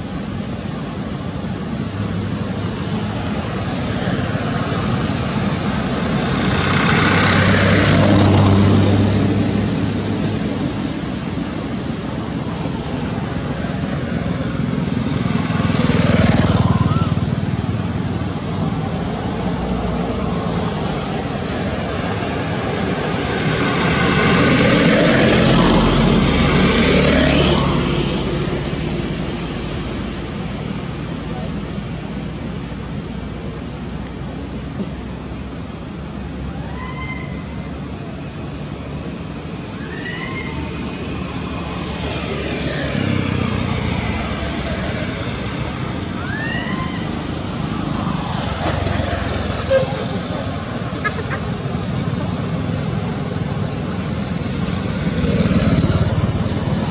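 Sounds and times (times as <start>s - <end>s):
motor vehicle passing: 1.6s - 31.8s, 38.5s - 56.9s.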